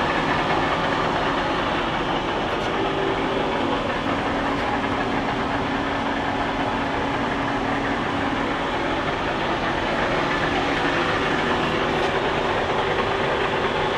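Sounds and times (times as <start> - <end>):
machinery rattling hum: 0.0 - 13.9.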